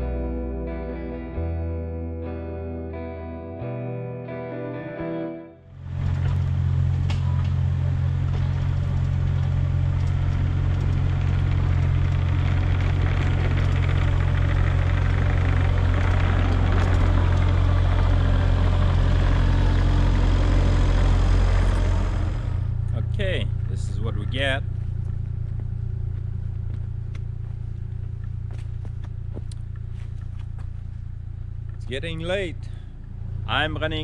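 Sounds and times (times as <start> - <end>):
excavator engine running: 5.6 - 34.0.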